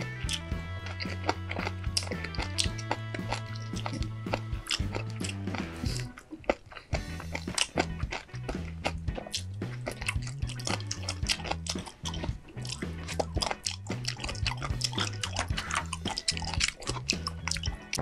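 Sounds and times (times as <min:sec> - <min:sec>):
wet chewing and mouth clicks: 0:00.0 - 0:18.0.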